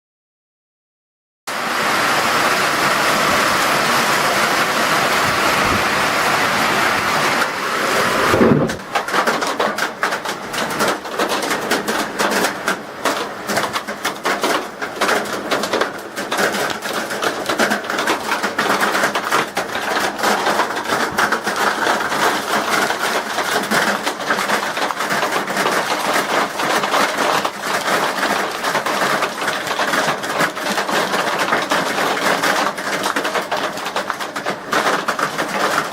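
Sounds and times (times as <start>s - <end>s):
wind and rain roar: 1.5s - 35.9s
hailstones pelting hard surfaces: 1.6s - 35.9s.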